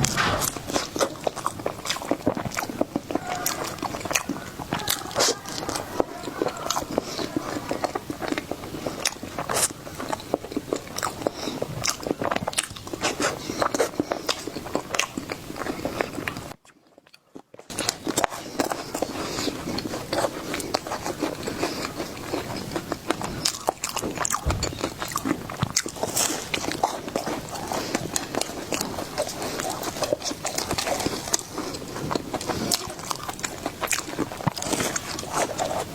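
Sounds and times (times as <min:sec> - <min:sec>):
person chewing crisp food: 0:00.0 - 0:35.9.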